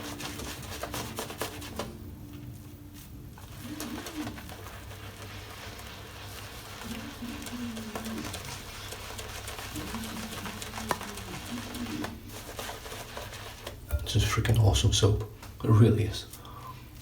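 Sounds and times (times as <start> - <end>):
shaving brush lathering soap: 0.0 - 2.2, 2.8 - 16.4.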